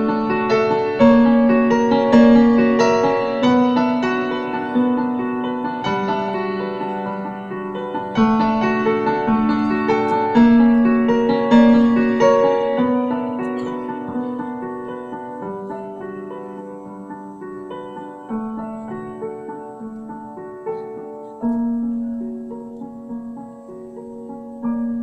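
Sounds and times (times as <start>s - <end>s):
cello: 0.0s - 25.0s
grand piano melody: 0.0s - 25.0s.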